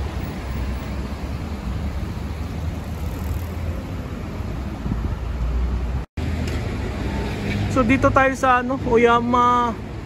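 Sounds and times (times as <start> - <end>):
passing cars rumbling: 0.0 - 10.0
tyres on wet road: 0.0 - 10.0.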